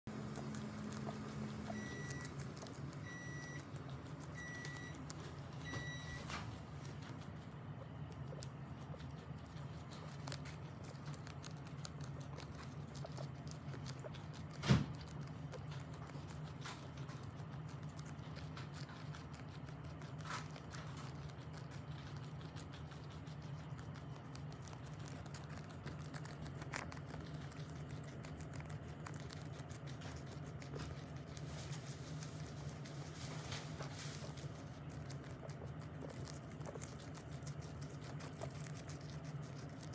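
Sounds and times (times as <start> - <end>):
guinea pigs chewing: 0.0 - 39.9
low steady hum: 0.1 - 39.9.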